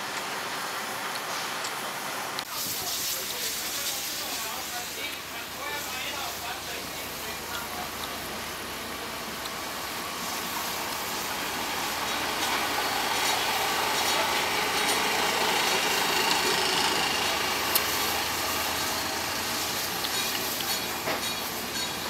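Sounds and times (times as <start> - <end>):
diesel railcar engine rolling past: 0.0 - 22.0.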